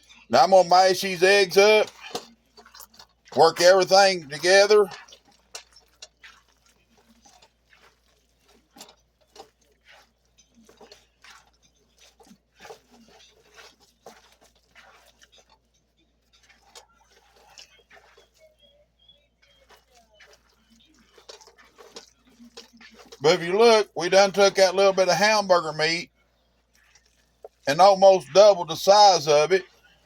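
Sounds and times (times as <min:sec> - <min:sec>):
hands squishing raw meat: 0:00.0 - 0:30.0.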